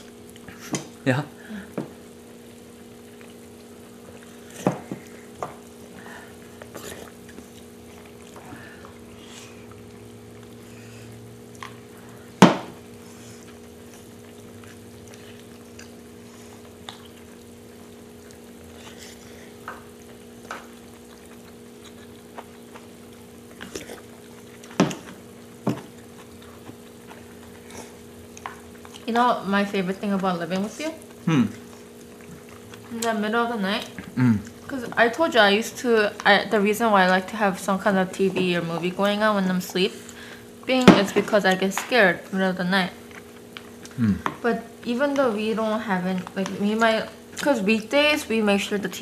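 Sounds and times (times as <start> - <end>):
steady low hum: 0.0 - 49.0
stew simmering: 0.0 - 49.0.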